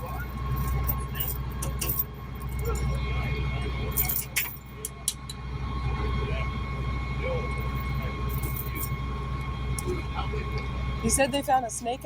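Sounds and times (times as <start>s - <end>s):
high whine: 0.0s - 12.0s
truck diesel engine running: 0.0s - 12.0s.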